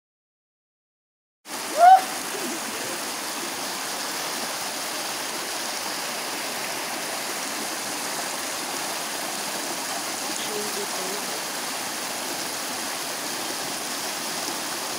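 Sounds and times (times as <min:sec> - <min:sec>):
water rushing and splashing: 0:01.5 - 0:14.9.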